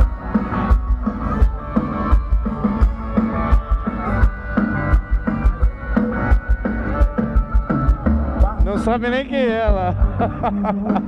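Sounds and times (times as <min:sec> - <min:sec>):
drum kit beat: 0:00.0 - 0:11.0
live rock band playing: 0:00.0 - 0:11.0.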